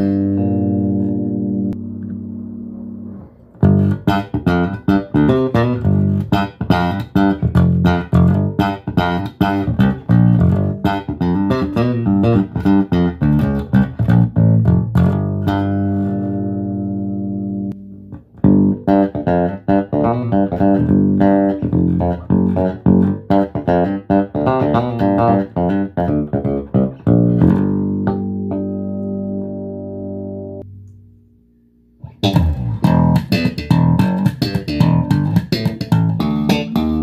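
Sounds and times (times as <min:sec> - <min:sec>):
electric bass notes: 0:00.0 - 0:37.0.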